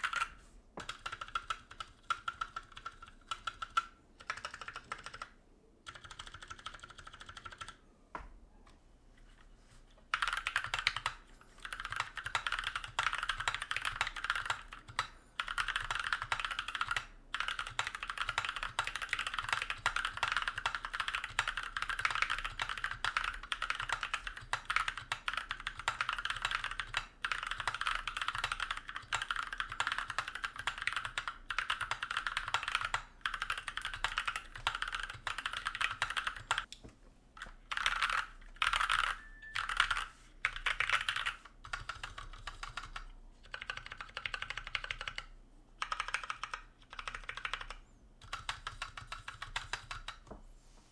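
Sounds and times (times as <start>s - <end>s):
mechanical keyboard typing: 0.0s - 7.8s, 10.1s - 36.7s, 37.4s - 50.3s.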